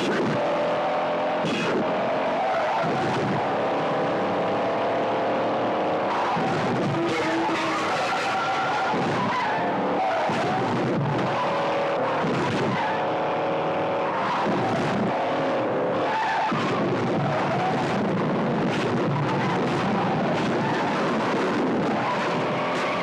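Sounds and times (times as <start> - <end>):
tires squealing and skidding: 0.0 - 4.1, 5.9 - 23.0
car engines revving hard: 0.0 - 23.0.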